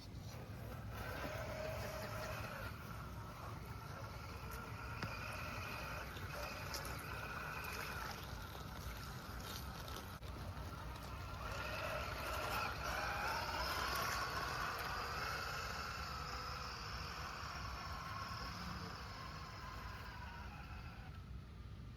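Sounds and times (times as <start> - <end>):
small electric motor whining: 0.0 - 21.4.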